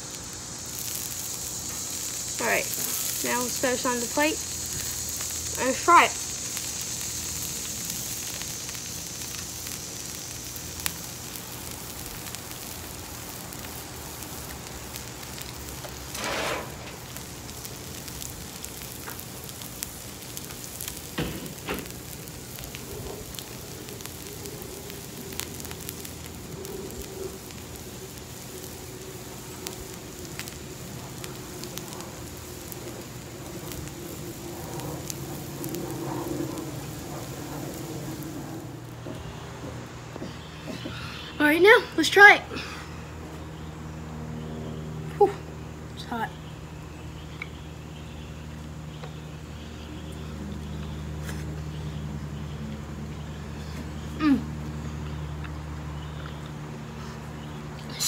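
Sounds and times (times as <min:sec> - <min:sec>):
food sizzling on a griddle: 0:00.0 - 0:58.0.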